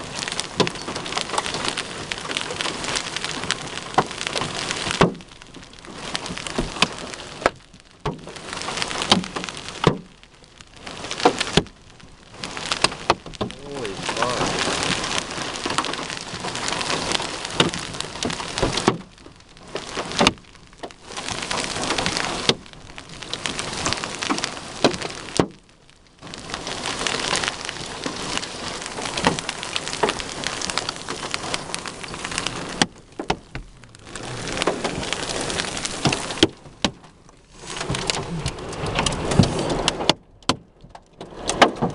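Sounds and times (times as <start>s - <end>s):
hail and heavy rain pelting: 0.0s - 41.9s
hailstones cracking: 0.0s - 41.9s.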